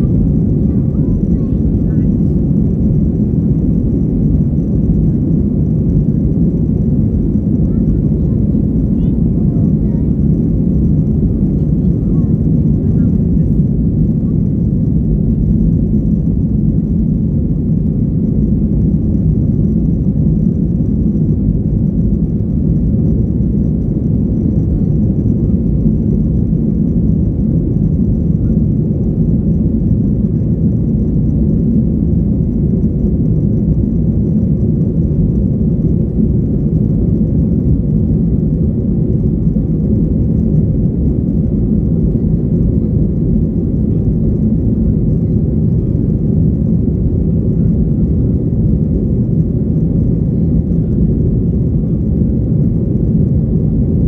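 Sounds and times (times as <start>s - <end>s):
jet engines roaring in cabin: 0.0s - 54.0s.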